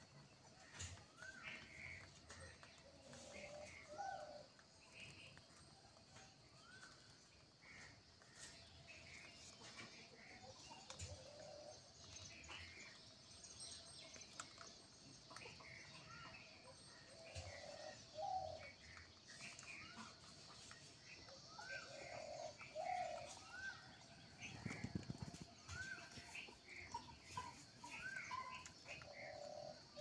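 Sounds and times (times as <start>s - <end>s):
faint bird calls and chirps: 0.0s - 30.0s.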